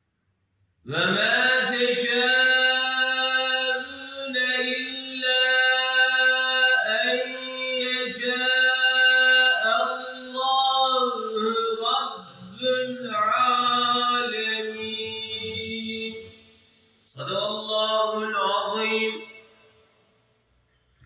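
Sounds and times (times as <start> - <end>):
man reciting melodically: 0.8 - 19.8.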